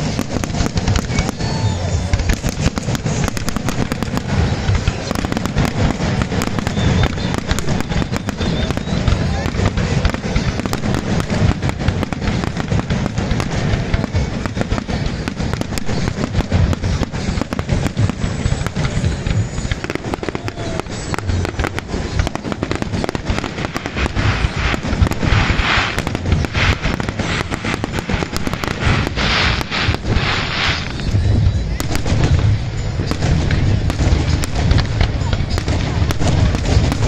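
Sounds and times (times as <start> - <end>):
crackling fizz of fireworks: 0.0 - 37.0
fireworks bangs and booms: 0.0 - 37.0.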